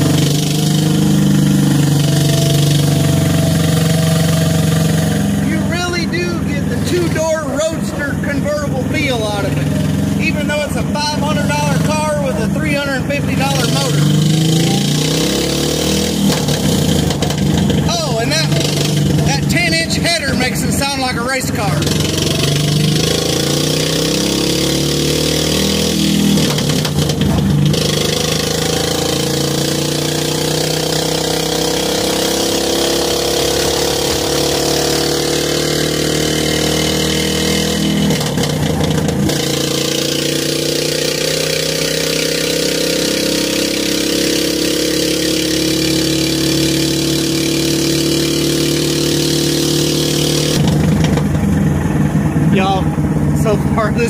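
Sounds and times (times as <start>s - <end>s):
single-cylinder engine running hard: 0.0s - 54.0s.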